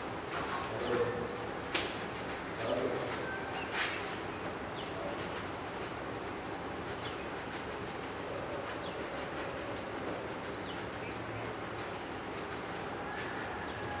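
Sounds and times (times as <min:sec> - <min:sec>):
outdoor hum: 0:00.0 - 0:14.0
high-pitched insect trill: 0:02.4 - 0:14.0.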